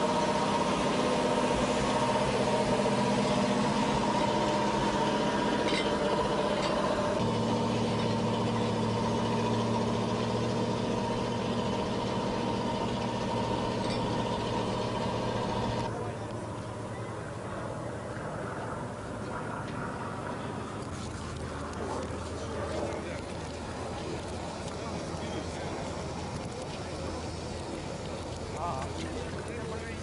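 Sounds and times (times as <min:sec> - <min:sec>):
engine running with a whine: 0:00.0 - 0:30.0.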